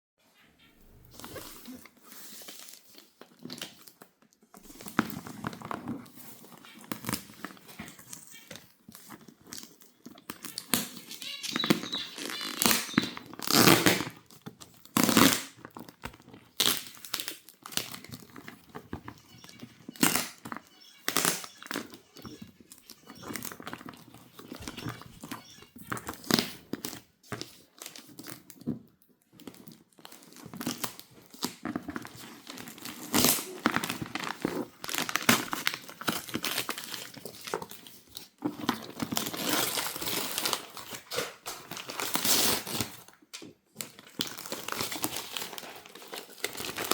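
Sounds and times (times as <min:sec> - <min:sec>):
packaging crinkling and tearing: 0:01.1 - 0:28.7, 0:29.4 - 0:43.2, 0:43.8 - 0:46.9.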